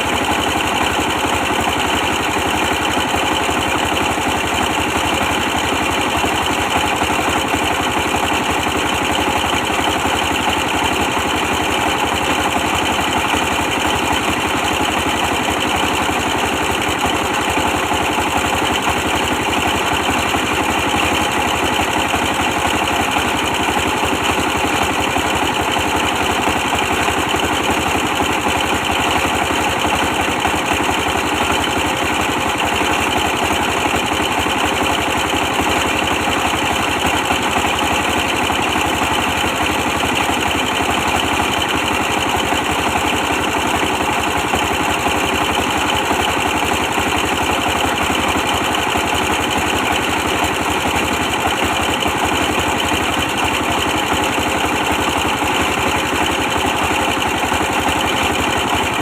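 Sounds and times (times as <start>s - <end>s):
stationary diesel engine running: 0.0s - 59.0s.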